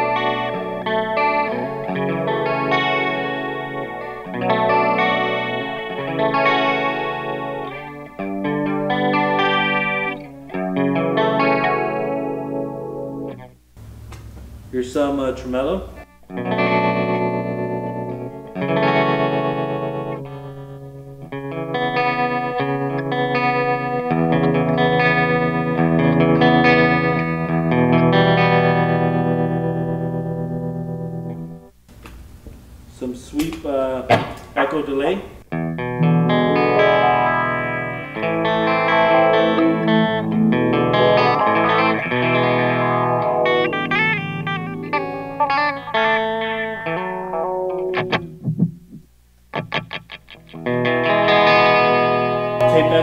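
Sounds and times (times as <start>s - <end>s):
electric guitar chords with tremolo: 0.0s - 15.0s, 15.9s - 31.7s, 35.4s - 53.0s.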